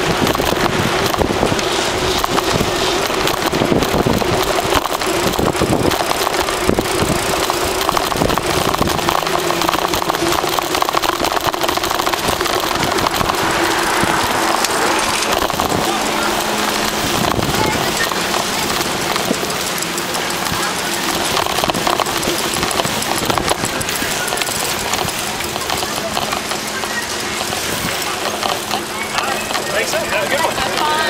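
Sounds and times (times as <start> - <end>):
street rattles and clicks: 0.0 - 31.0.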